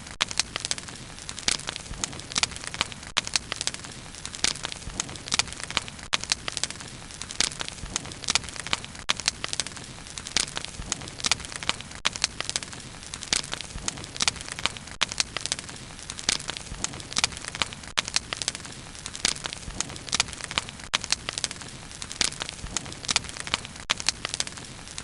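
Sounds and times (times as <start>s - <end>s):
bonfire crackling and popping: 0.0s - 25.0s.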